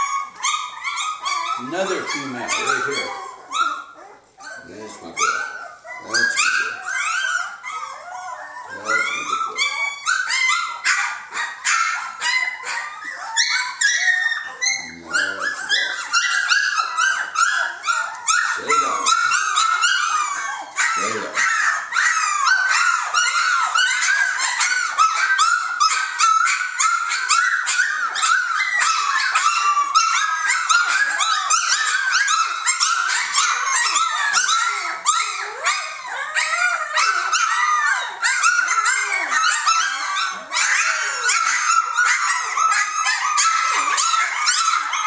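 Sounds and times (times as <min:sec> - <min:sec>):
puppies whining and squealing: 0:00.0 - 0:45.0.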